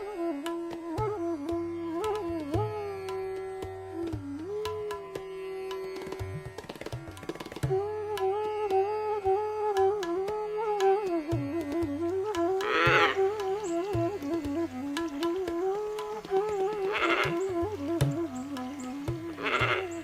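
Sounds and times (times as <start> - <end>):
flute melody: 0.0 - 20.0
tabla drumming: 0.0 - 20.0.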